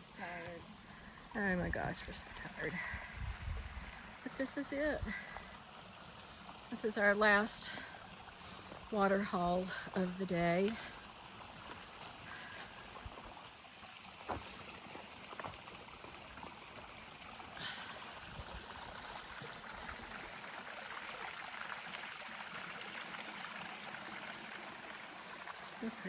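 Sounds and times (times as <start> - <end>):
small creek running: 0.0 - 26.0.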